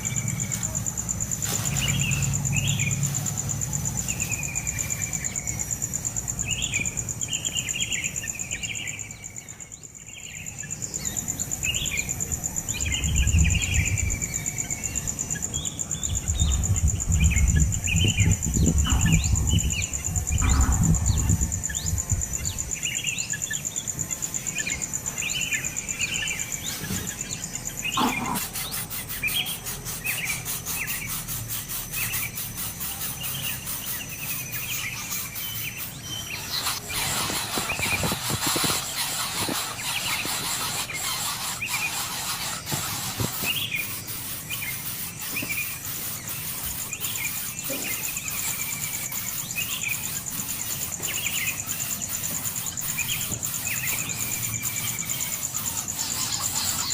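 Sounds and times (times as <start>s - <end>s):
birds chirping: 0.0s - 56.9s
high insect buzz: 0.0s - 56.9s.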